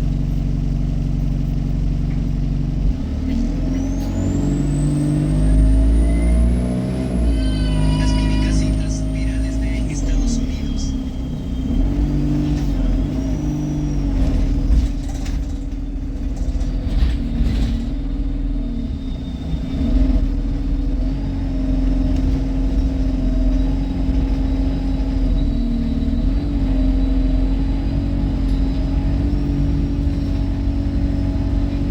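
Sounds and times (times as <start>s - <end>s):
bus engine droning: 0.0s - 31.9s.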